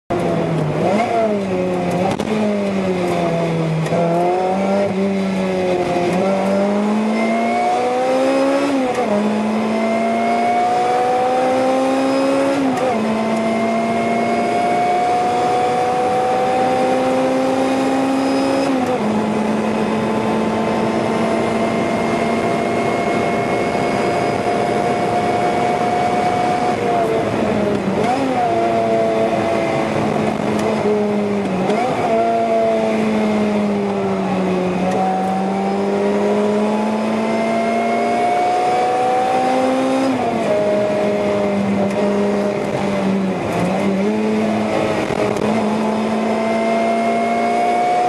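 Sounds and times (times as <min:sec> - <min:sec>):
car engine revving: 0:00.1 - 0:48.0
gear upshifts: 0:00.1 - 0:48.0.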